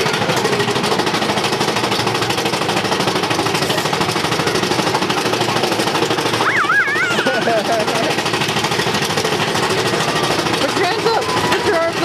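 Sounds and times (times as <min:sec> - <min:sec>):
roller coaster rattling on track: 0:00.0 - 0:12.0.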